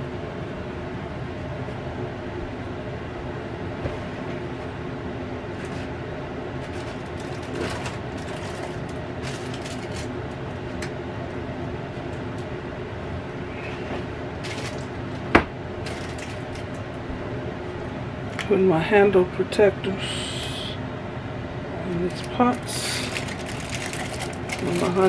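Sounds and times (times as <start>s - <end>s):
air fryer fan humming: 0.0s - 25.0s.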